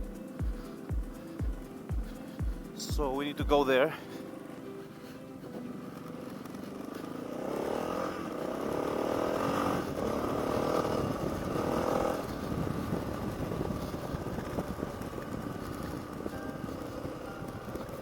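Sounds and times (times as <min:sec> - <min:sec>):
motorcycle engine running: 0:00.0 - 0:03.8, 0:04.4 - 0:18.0
wind and terrain rumble: 0:00.0 - 0:18.0.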